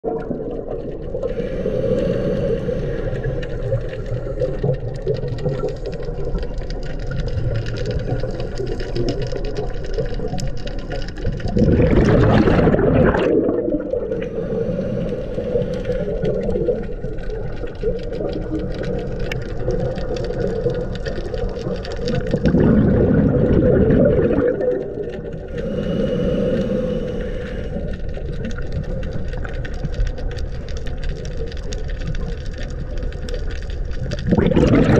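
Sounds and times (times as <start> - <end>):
scuba regulator exhalation bubbles: 0.0 - 29.9, 34.0 - 34.9
muffled underwater noise: 1.2 - 34.9.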